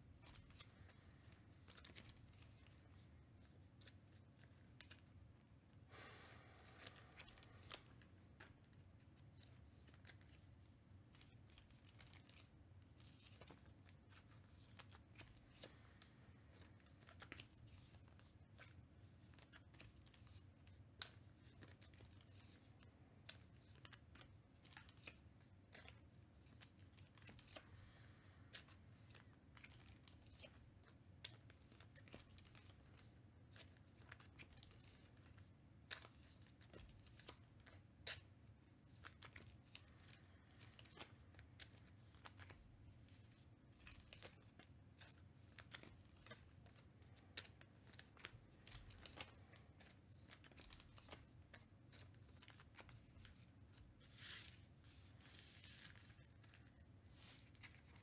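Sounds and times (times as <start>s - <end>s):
low room hum: 0.0s - 58.0s
trading cards clicking and rustling: 0.2s - 3.1s, 11.1s - 58.0s.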